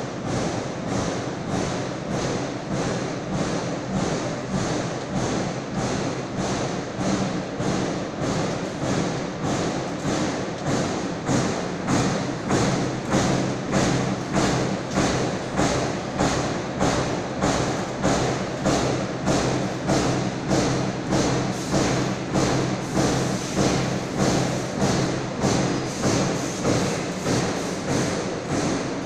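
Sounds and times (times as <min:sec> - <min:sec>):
press thudding rhythmically: 0:00.0 - 0:29.0.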